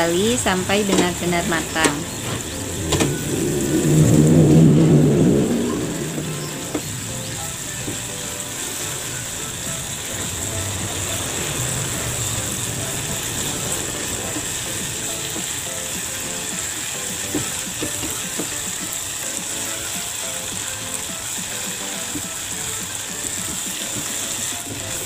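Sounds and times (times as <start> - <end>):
spice paste sizzling in oil: 0.0 - 25.0.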